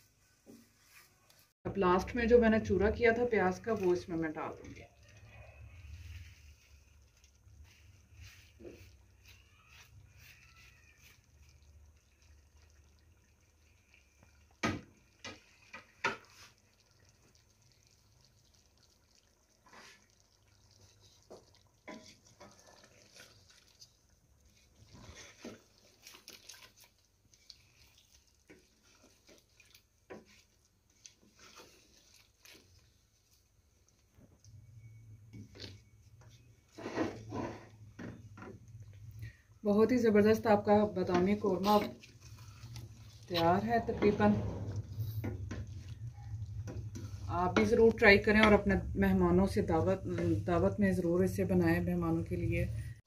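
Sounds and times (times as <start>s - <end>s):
wet stirring of curry: 0.0s - 52.5s.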